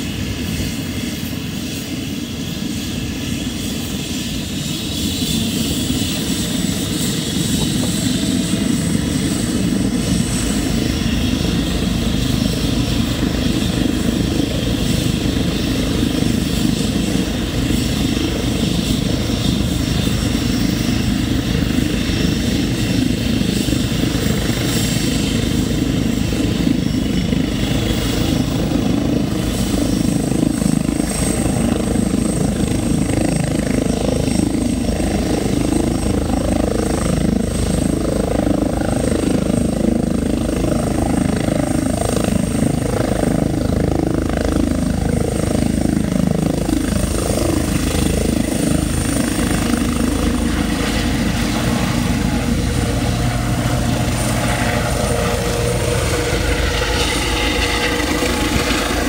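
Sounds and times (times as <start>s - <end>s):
helicopter rotor and turbine noise: 0.0s - 59.0s
thin high turbine whine: 0.0s - 59.0s.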